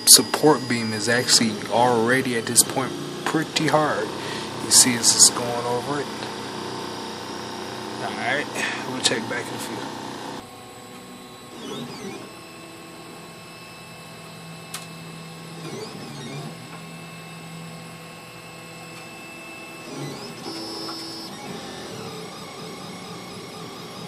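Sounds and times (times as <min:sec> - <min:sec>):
stepper motors whining: 0:00.0 - 0:10.4, 0:11.2 - 0:24.0.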